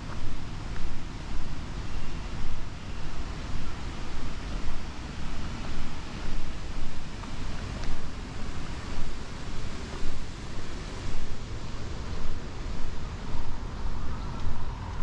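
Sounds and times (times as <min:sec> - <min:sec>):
faint background hiss: 0:00.0 - 0:15.0
wind buffeting microphone: 0:00.0 - 0:15.0.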